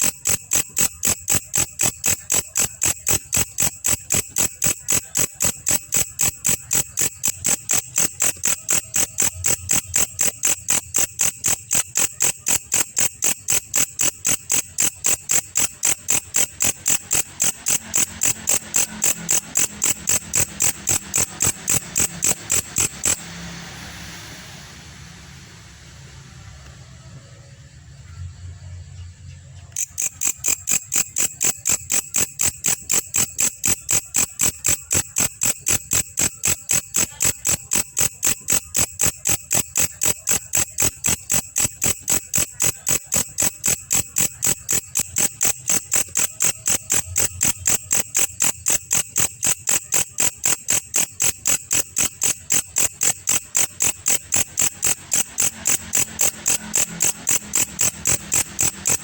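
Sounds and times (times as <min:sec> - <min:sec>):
insect chirping: 0:00.0 - 0:26.5, 0:27.1 - 0:59.0.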